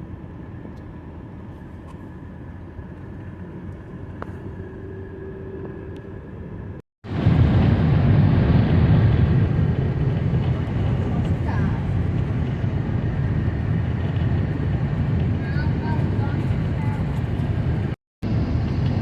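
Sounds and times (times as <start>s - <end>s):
car road rumble: 0.0s - 19.0s.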